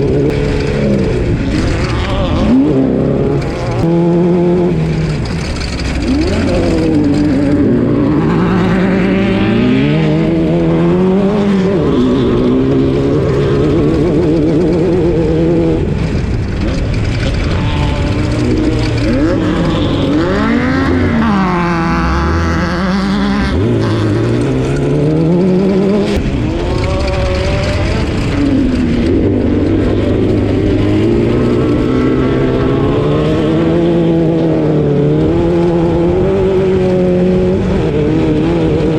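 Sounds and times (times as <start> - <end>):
race car engine revving: 0.0 - 38.9
rumble and rattle: 0.0 - 38.9.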